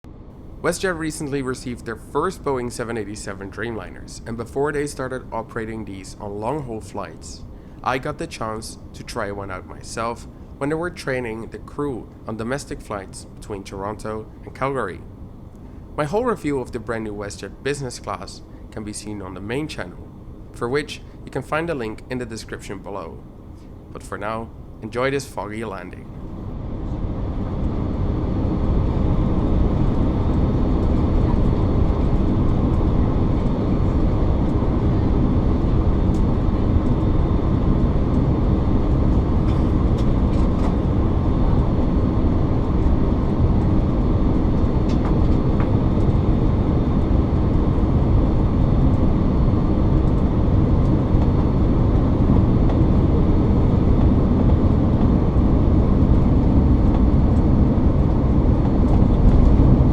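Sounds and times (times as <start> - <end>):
airplane cabin engine rumble: 0.1 - 59.9.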